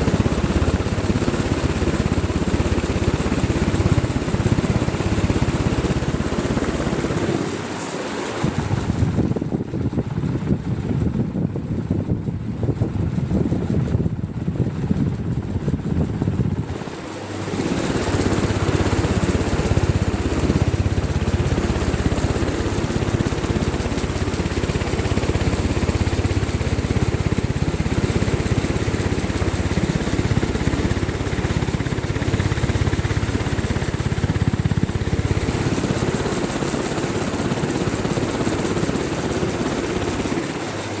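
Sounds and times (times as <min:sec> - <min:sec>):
ceiling fan airflow rushing: 0:00.0 - 0:41.0
high-pitched fan whine: 0:00.0 - 0:41.0.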